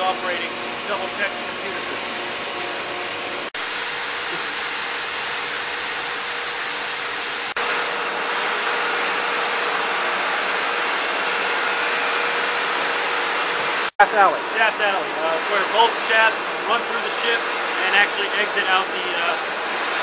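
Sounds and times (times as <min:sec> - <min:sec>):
machinery and ventilation roar: 0:00.0 - 0:20.0.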